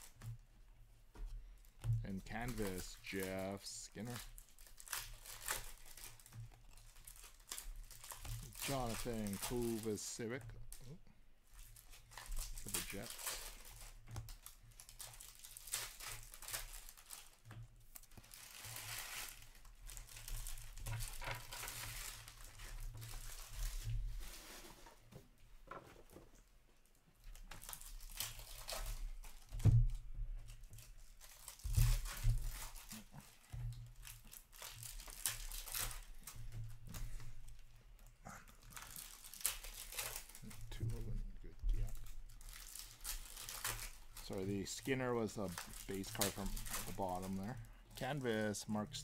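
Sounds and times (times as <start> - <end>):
cards rustling and crinkling: 1.1 - 25.2, 25.8 - 49.0.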